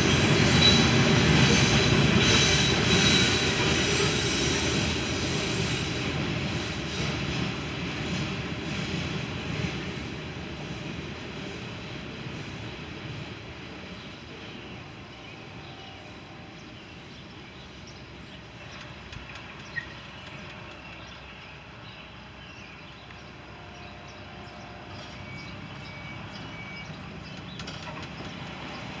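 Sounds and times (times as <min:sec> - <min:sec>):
freight train rumbling: 0:00.0 - 0:29.0.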